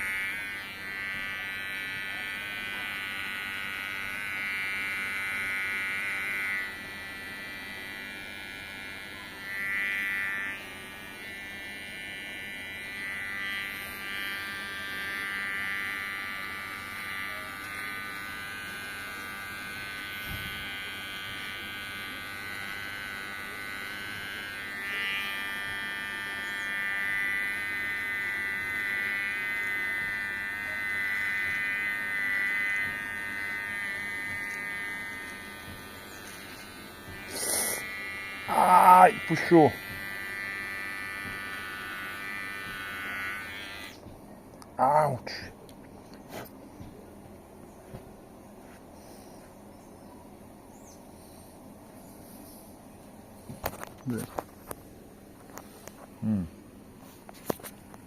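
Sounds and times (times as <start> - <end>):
electric hair clipper buzzing: 0.0 - 50.3, 50.9 - 58.0.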